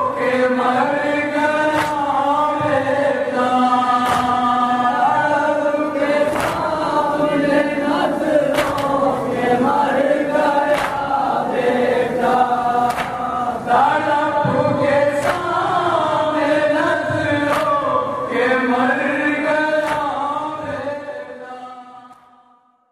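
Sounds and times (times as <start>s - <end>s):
men chanting in unison: 0.0s - 22.6s.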